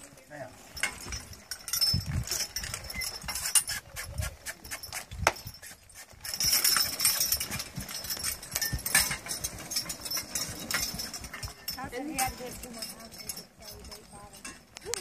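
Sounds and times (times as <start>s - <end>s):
trace chains and harness clinking: 0.0s - 15.0s.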